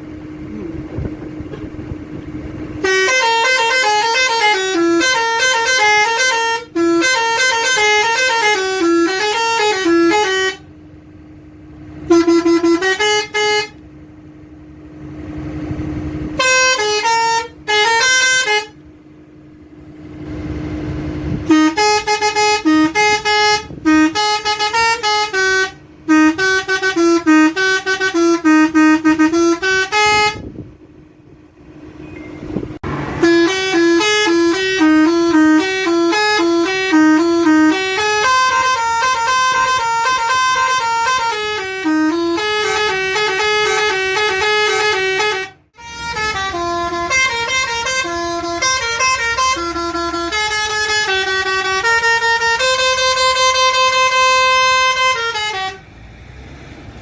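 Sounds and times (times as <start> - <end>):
steady hum: 0.0 - 55.8
musical bus horn tunes: 0.1 - 31.0, 31.8 - 56.0.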